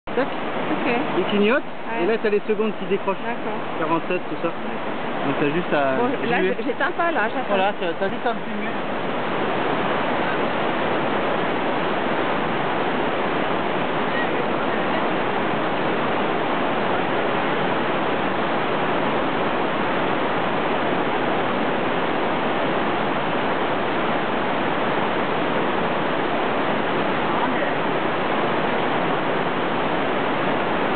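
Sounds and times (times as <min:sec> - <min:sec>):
river rushing over rapids: 0:00.1 - 0:30.9.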